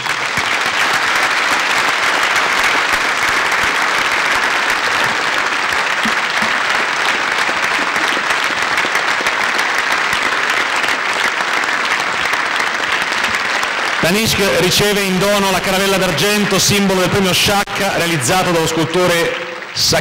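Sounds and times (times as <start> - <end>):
audience applause: 0.0 - 20.0.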